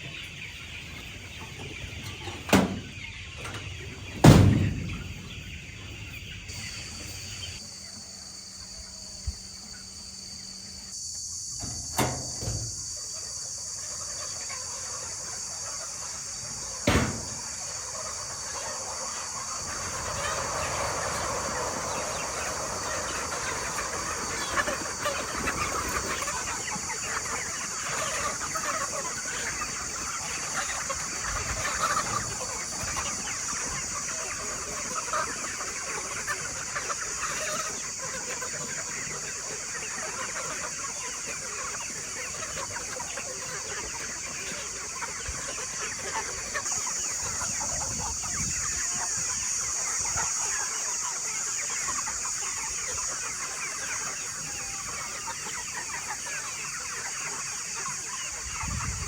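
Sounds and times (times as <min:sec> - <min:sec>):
chickens clucking and chirping: 0:00.0 - 0:59.0.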